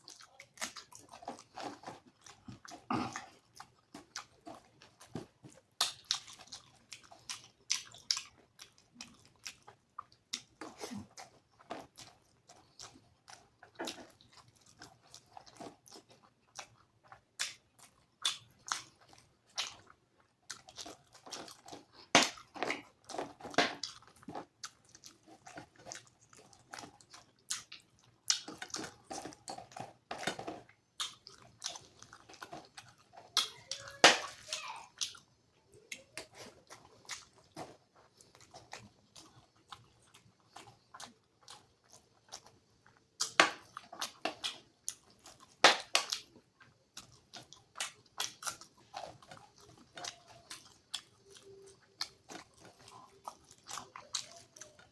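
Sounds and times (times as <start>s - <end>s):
chewing and lip-smacking: 0.0s - 54.9s.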